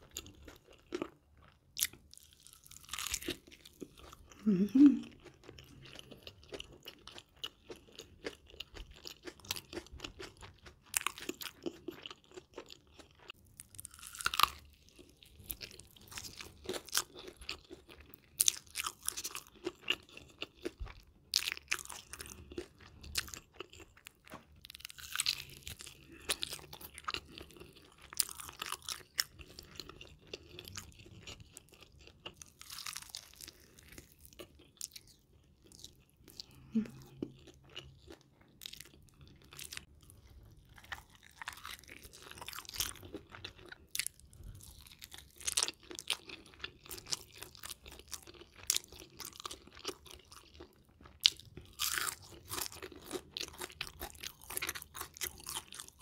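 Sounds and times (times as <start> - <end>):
crunchy chewing of fried chicken: 0.0 - 56.0.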